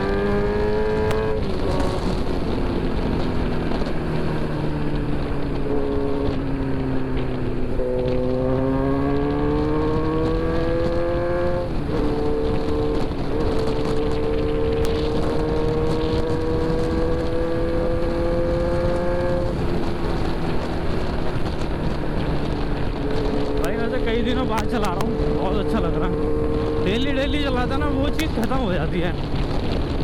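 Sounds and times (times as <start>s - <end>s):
motorcycle engine accelerating: 0.0s - 30.0s
wind rushing over microphone: 0.0s - 30.0s.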